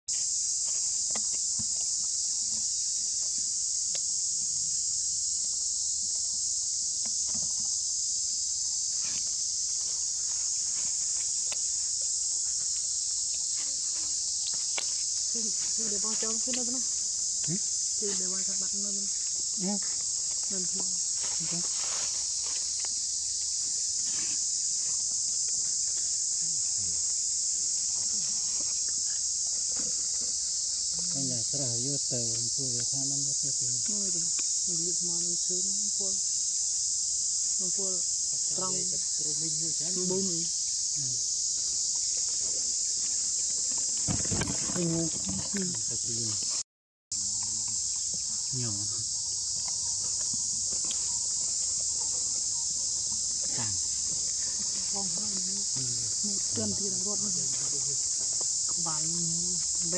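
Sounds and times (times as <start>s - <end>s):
insects droning: 0.1s - 59.9s.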